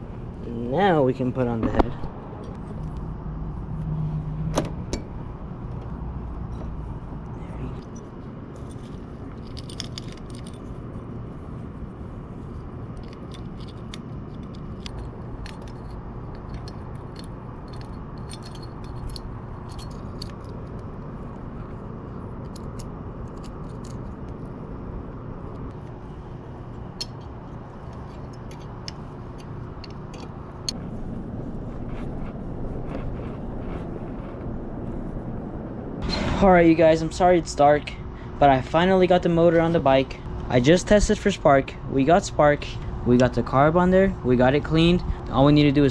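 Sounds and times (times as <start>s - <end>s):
steady low rumble: 0.0s - 45.9s.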